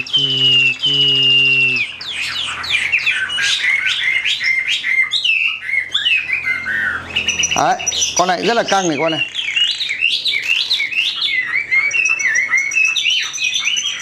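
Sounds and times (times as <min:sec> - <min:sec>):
bird singing whistled notes: 0:00.0 - 0:14.0.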